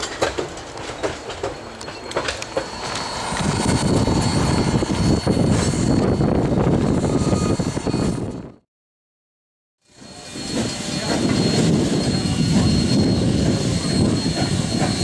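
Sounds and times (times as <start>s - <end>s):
train rumbling: 0.0s - 8.6s, 9.9s - 15.0s.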